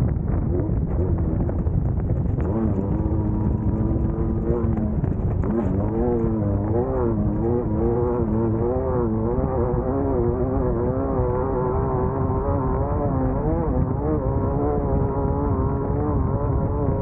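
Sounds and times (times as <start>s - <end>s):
low rumble: 0.0s - 17.0s
race buggy engine revving: 0.3s - 17.0s.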